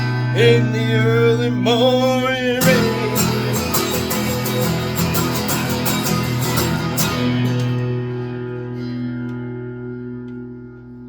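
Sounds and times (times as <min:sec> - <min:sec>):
guitar strumming: 0:00.0 - 0:11.0.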